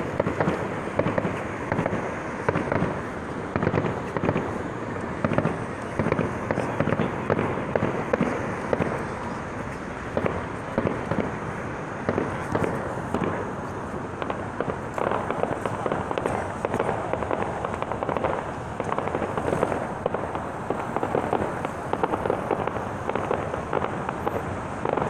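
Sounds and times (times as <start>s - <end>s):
distant fireworks bangs and crackles: 0.0s - 25.0s.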